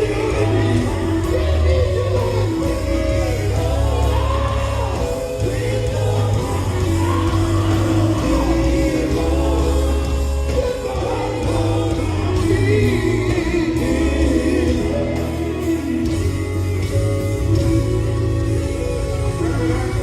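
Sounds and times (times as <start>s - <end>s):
band with guitar: 0.0s - 20.0s
group singing in harmony: 0.0s - 20.0s.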